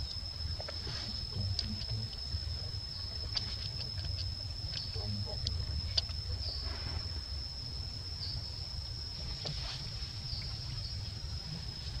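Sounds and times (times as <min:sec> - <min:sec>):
continuous low rumble: 0:00.0 - 0:12.0
high-pitched insect drone: 0:00.0 - 0:12.0.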